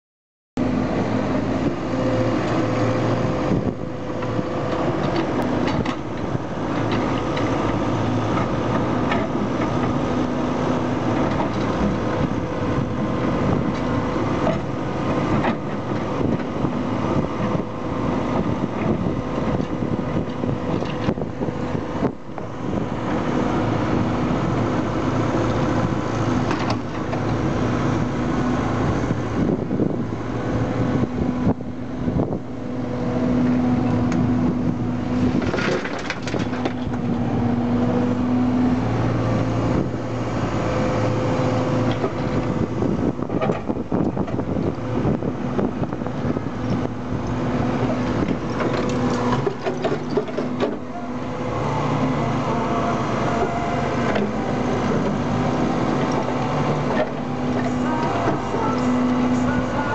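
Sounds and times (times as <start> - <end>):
diesel engines running: 0.6 - 59.9.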